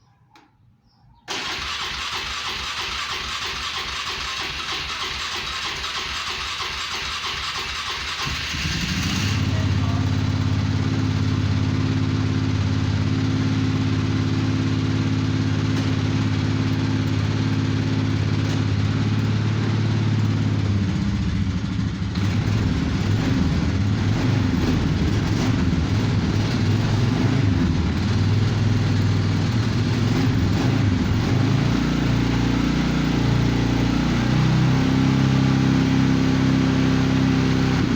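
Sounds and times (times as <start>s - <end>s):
atv engine idling: 1.3s - 37.9s.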